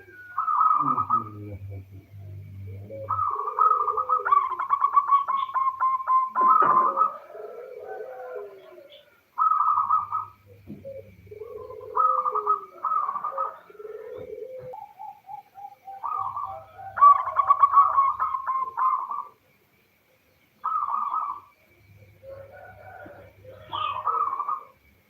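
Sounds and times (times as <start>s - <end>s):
dove cooing: 0.0s - 25.0s.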